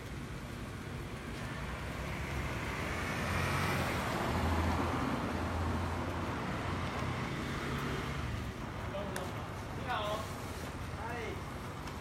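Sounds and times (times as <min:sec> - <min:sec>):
vehicle engine and tyre noise: 0:00.0 - 0:12.0.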